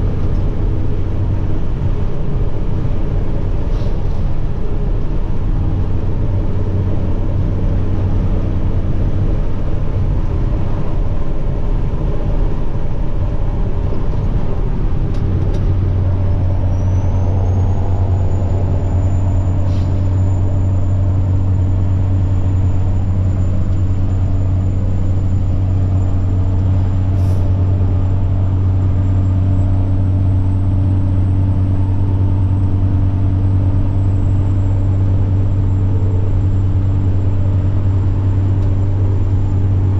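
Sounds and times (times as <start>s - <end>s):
diesel truck engine droning: 0.0s - 39.9s
turbocharger whine: 0.0s - 39.9s.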